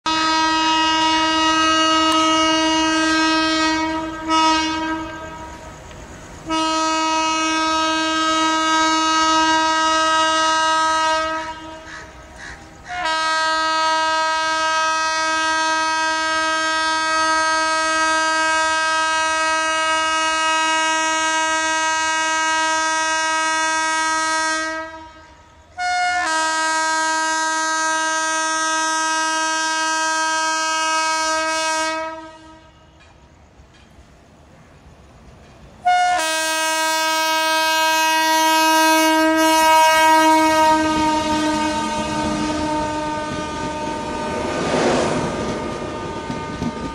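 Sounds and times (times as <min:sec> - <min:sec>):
locomotive horn blasts: 0:00.1 - 0:05.8, 0:06.5 - 0:11.9, 0:12.9 - 0:33.1, 0:35.8 - 0:46.9.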